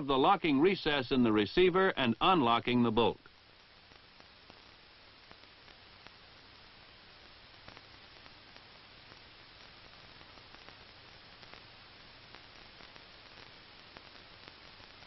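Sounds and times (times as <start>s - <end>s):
faint steady hiss: 0.0s - 15.0s
light crackles: 0.0s - 15.0s.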